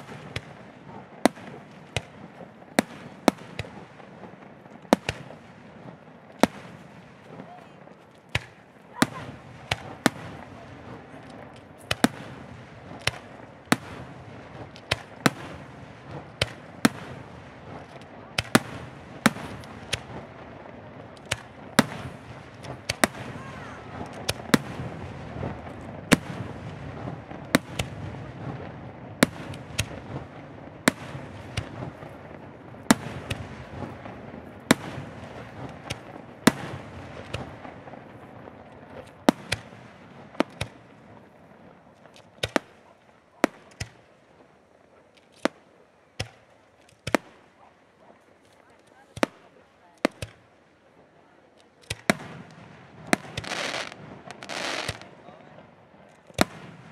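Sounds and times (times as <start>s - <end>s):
fireworks bursting with sharp bangs: 0.0s - 56.9s
steady haze of noise: 0.0s - 56.9s.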